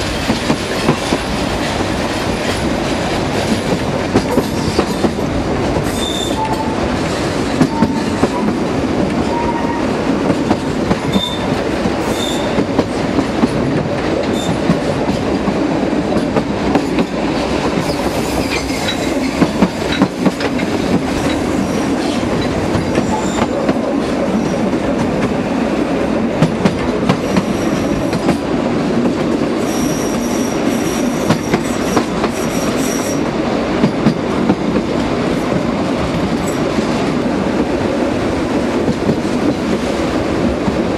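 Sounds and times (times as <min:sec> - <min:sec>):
train wheels clattering over track: 0:00.0 - 0:40.9.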